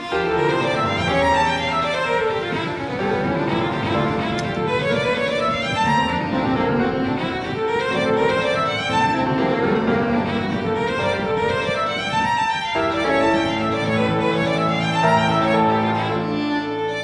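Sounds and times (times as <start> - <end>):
slow classical music: 0.0 - 17.0.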